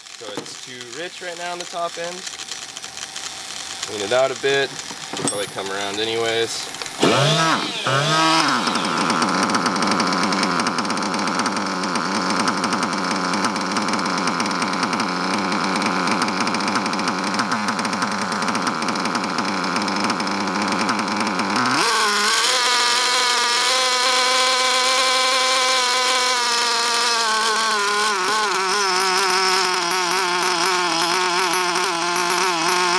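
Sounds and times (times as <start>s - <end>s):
model car engine revving: 0.0s - 32.9s.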